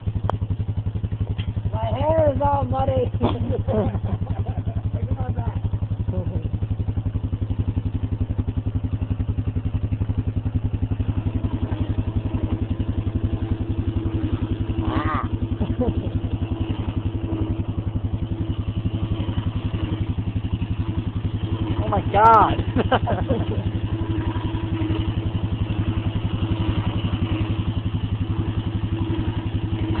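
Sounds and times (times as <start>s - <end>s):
atv engine idling: 0.0s - 30.0s.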